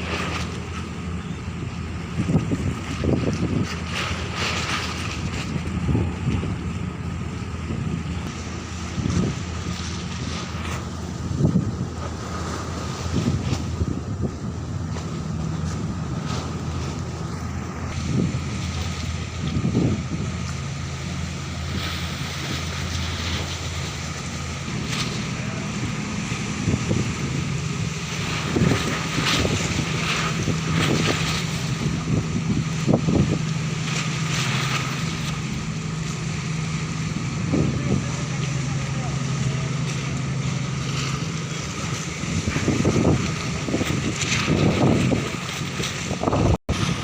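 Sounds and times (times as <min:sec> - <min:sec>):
heavy diesel engines droning: 0:00.0 - 0:47.0
wind buffeting microphone: 0:00.0 - 0:47.0.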